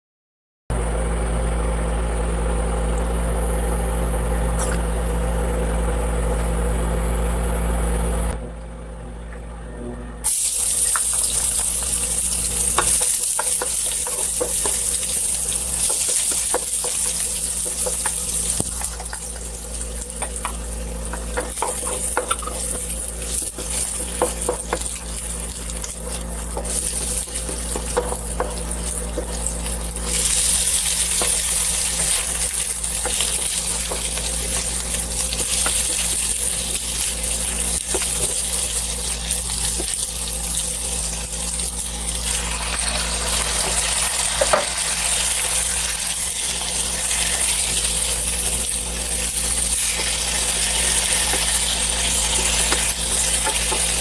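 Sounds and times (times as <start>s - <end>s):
steady low hum: 0.7s - 54.0s
garlic sizzling in hot oil: 10.2s - 54.0s.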